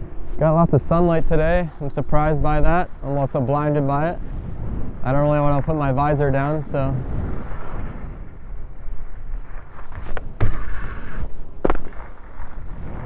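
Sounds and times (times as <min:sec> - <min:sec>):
skis scraping over snow: 0:00.0 - 0:13.0.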